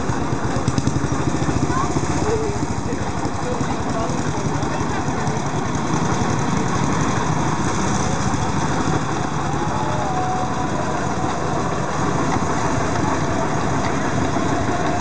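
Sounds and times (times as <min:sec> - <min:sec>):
small truck engine chugging: 0:00.0 - 0:15.0.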